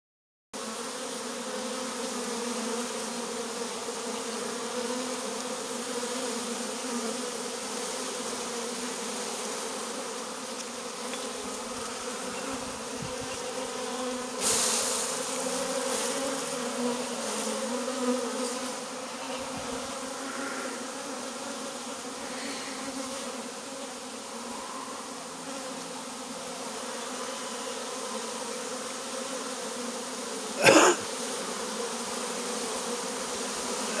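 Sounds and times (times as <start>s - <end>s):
bees buzzing: 0.6s - 34.0s.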